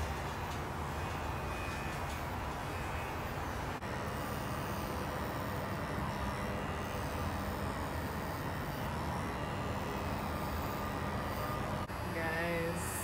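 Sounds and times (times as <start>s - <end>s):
pet clippers humming: 0.0s - 13.0s.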